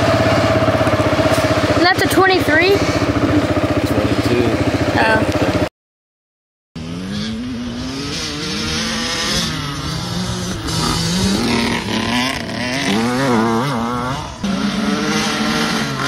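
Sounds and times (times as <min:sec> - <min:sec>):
dirt bike engines revving: 0:00.0 - 0:05.7, 0:06.8 - 0:16.0.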